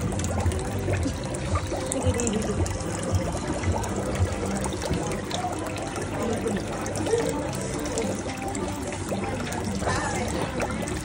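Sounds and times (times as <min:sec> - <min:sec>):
water trickling and pouring: 0:00.0 - 0:11.0.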